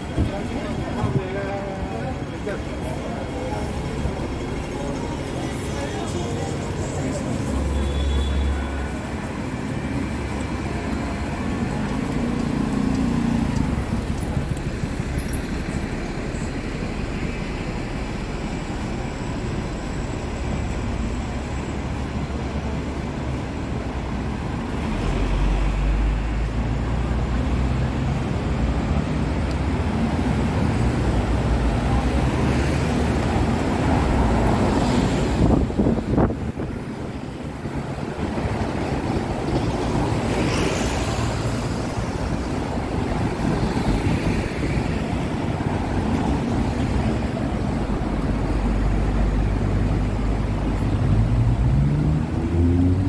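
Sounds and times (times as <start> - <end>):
low rumble of vehicle traffic: 0.0 - 53.0.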